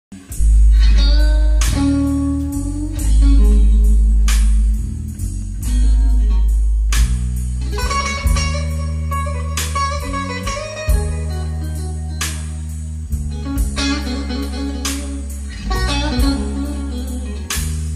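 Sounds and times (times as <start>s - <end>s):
guitar music with deep bass: 0.1s - 17.9s.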